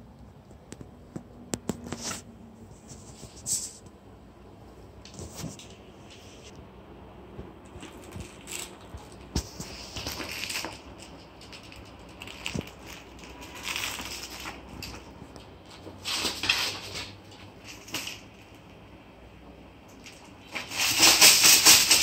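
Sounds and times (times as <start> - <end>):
crinkling and rustling: 0.2 - 3.9, 5.0 - 6.6, 7.3 - 18.8, 19.8 - 22.0.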